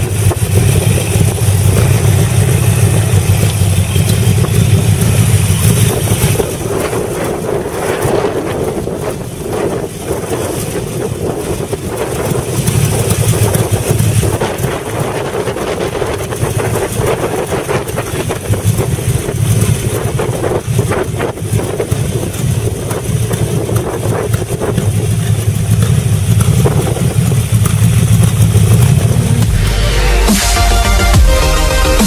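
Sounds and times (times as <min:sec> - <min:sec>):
motorcycle engine exhaust: 0:00.0 - 0:32.0.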